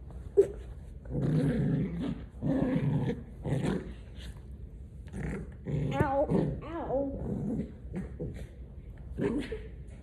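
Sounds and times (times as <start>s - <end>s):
dog play-growling: 0.2s - 10.0s.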